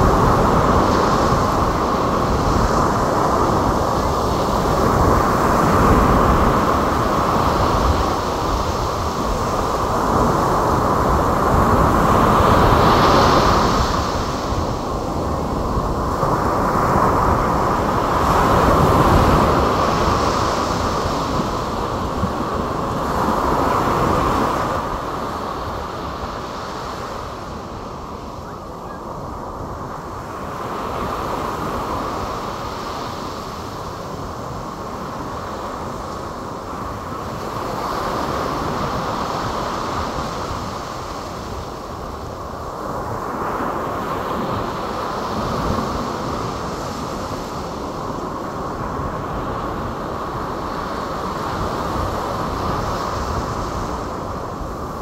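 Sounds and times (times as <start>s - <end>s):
surf washing onto beach: 0.0s - 55.0s
wind rumble on microphone: 0.0s - 55.0s.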